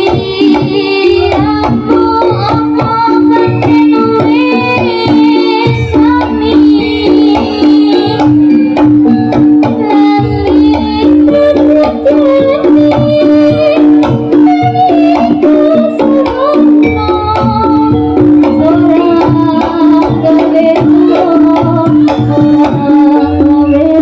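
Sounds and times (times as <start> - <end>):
hand drums rhythm: 0.0 - 24.0
melodic instrument line: 3.3 - 24.0.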